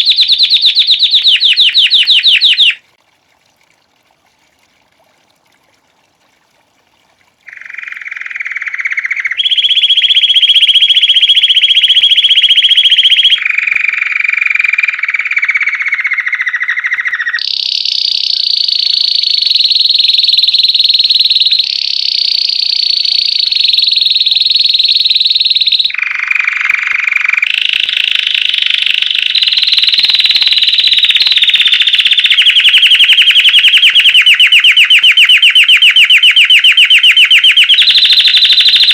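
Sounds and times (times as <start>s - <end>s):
canary singing trills: 0.0s - 2.8s, 7.5s - 38.9s.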